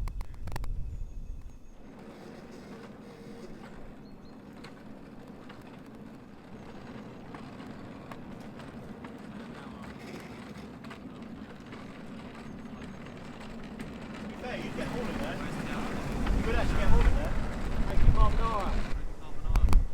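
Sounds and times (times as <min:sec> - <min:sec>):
miniature train rumbling: 0:00.0 - 0:19.9
wheels clicking: 0:00.0 - 0:19.9.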